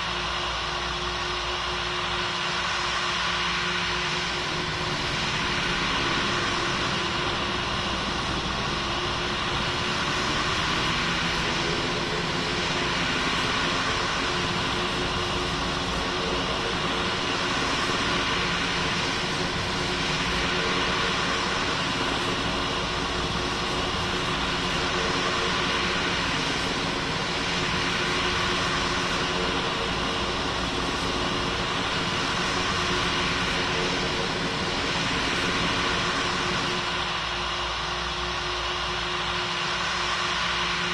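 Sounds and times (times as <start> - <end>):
jet engine cabin noise: 0.0 - 40.9.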